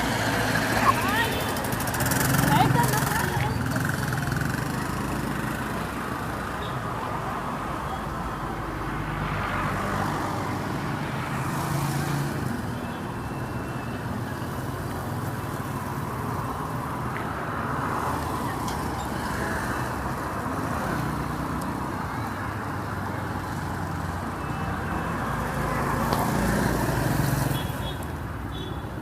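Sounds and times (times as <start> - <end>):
traffic passing: 0.0 - 29.0.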